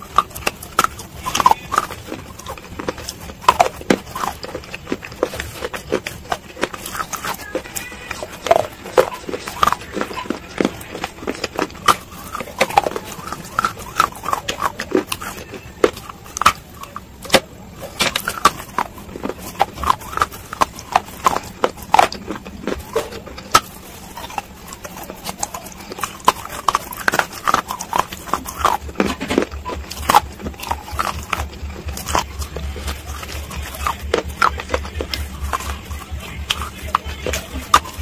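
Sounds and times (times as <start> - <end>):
crunchy chewing: 0.0 - 38.0
wet mouth clicks: 0.0 - 38.0.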